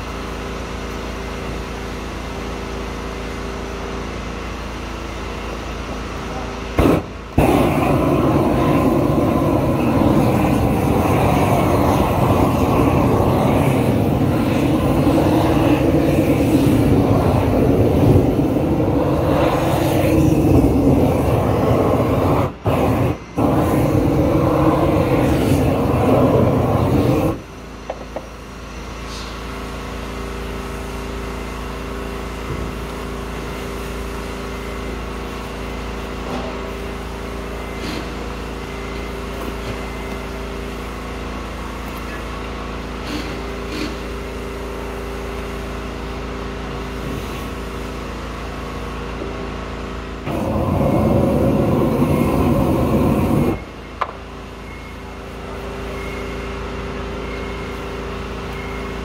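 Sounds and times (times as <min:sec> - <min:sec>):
roofing torch burning: 0:00.0 - 0:56.4.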